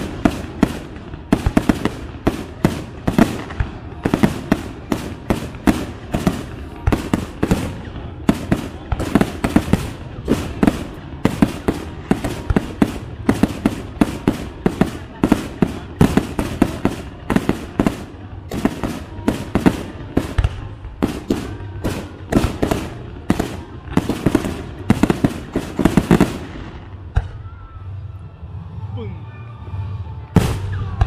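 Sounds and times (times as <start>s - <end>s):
firework rumble: 0.0s - 29.0s.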